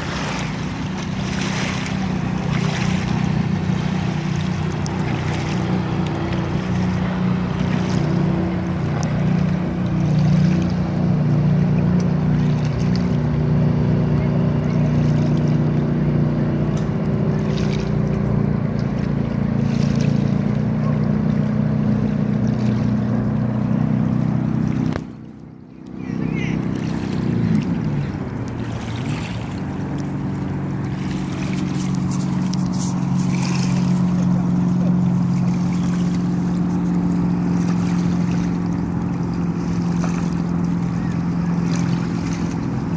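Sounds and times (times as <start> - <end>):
motorboat engine drone: 0.0 - 42.9.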